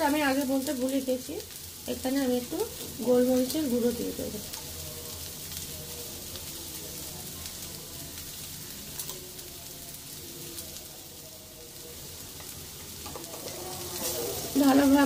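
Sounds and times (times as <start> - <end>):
potatoes sizzling in a pan: 0.0 - 15.0.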